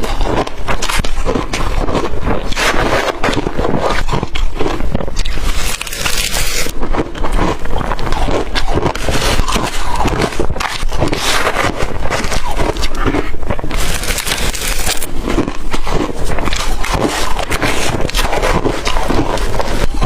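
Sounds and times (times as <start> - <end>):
chewing crushed ice: 0.0 - 20.0.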